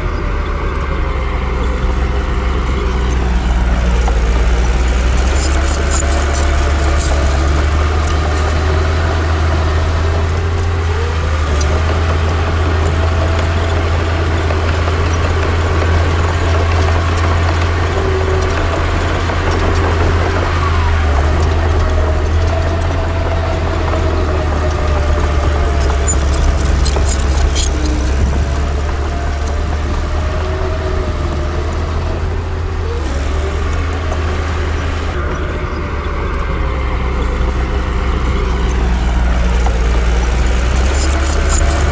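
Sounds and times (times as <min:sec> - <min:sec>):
diesel machinery engine drone: 0:00.0 - 0:41.9
light clicks and clanks: 0:00.5 - 0:35.2, 0:37.2 - 0:41.9.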